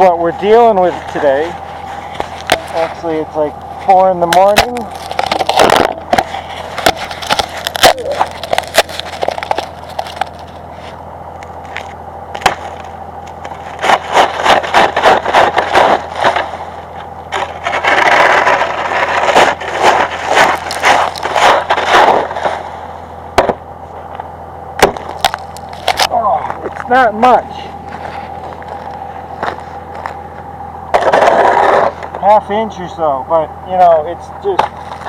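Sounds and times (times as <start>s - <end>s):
steady low hum: 0.0s - 35.0s
footsteps crunching icy sleet: 0.2s - 23.0s, 24.0s - 32.2s.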